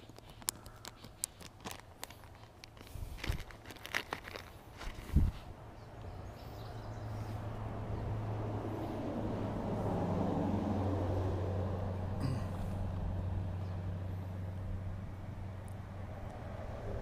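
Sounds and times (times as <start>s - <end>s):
vehicle humming over bridge: 0.0s - 17.0s.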